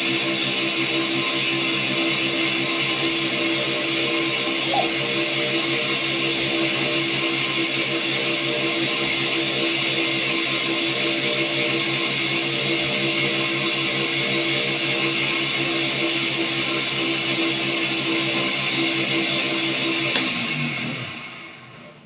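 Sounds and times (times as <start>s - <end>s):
cotton candy machine humming: 0.0s - 21.6s.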